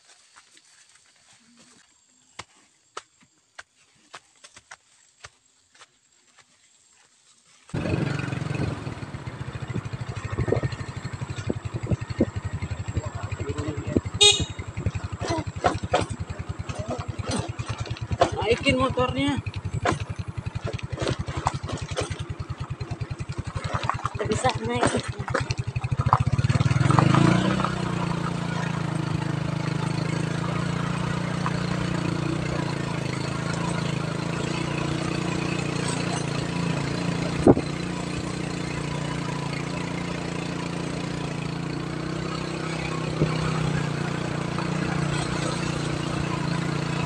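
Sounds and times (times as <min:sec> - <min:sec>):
motorcycle engine: 0:07.7 - 0:47.0.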